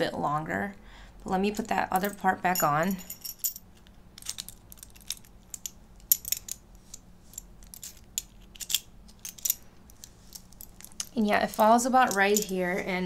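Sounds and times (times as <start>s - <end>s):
metal chain clicks and clinks: 2.0s - 12.8s.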